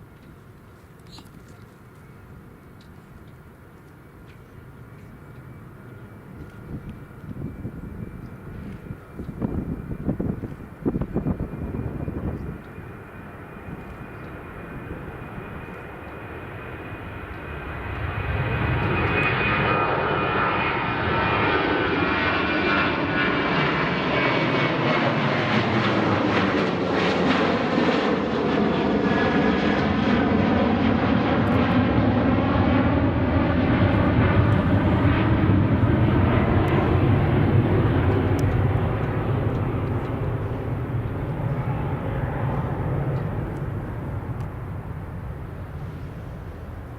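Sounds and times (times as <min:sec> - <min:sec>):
high jet whine: 0:00.0 - 0:46.9
jet engines roaring: 0:00.0 - 0:46.9.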